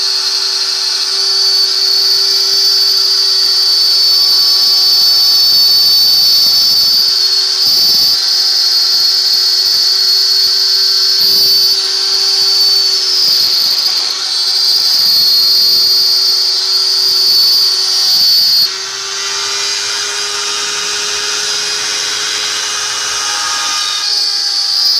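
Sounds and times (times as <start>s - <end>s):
machine spindle whining: 0.0s - 24.9s.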